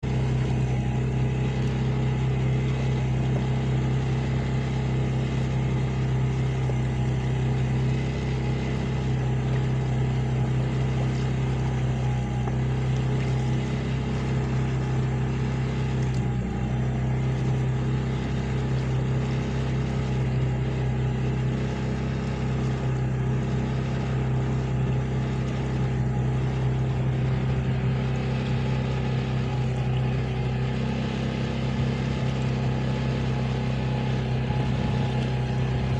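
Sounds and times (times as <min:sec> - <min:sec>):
boat engine droning: 0:00.0 - 0:35.9.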